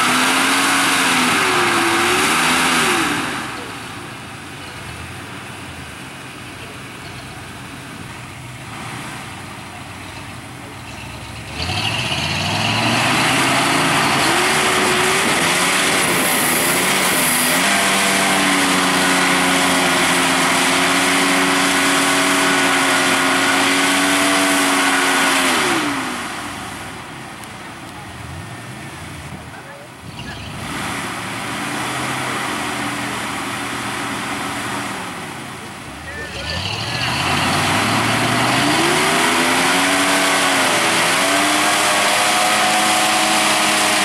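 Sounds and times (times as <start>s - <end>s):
truck engine revving: 0.0s - 44.0s
tyres churning mud: 0.0s - 44.0s.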